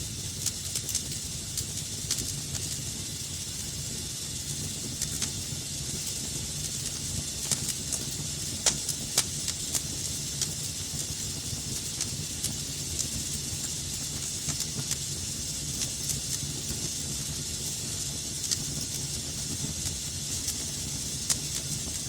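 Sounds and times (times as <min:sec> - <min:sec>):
fire crackling and popping: 0:00.0 - 0:22.0
fire rumbling and hissing: 0:00.0 - 0:22.0.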